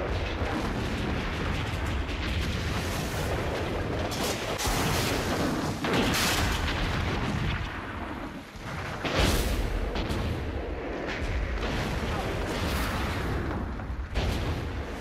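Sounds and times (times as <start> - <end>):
cannons booming: 0.0 - 15.0
continuous gunfire: 0.0 - 15.0.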